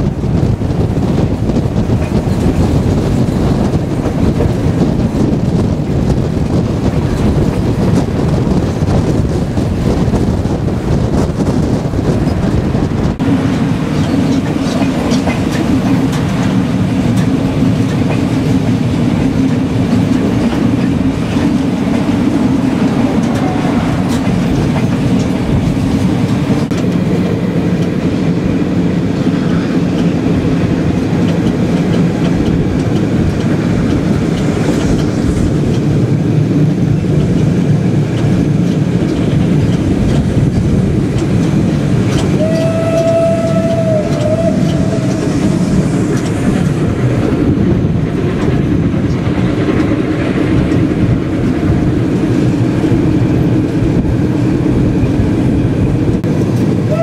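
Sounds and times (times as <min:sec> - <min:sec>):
train wheels rumbling on rails: 0:00.0 - 0:57.0
clicking over rail joints: 0:01.1 - 0:56.9.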